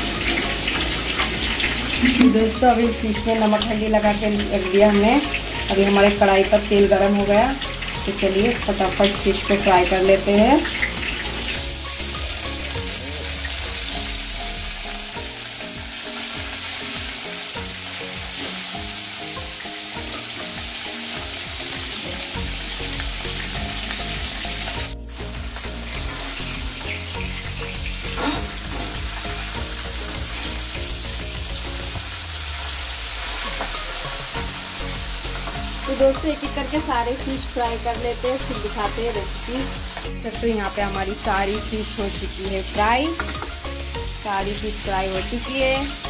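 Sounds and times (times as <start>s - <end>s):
fish sizzling in hot oil: 0.0s - 46.0s.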